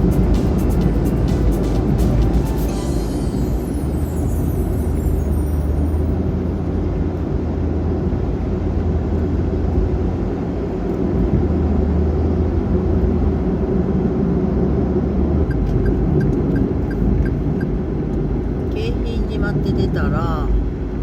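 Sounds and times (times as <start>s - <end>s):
road and engine rumble: 0.0s - 21.0s.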